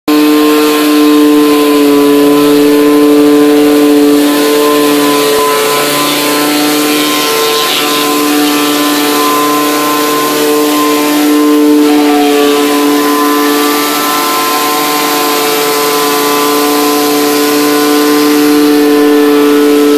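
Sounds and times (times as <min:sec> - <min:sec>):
pressure washer hum: 0:00.1 - 0:19.9.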